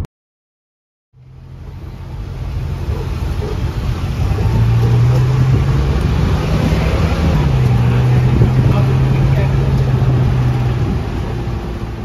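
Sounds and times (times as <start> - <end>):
road noise: 1.2 - 12.0
tuk-tuk engine running: 1.2 - 12.0.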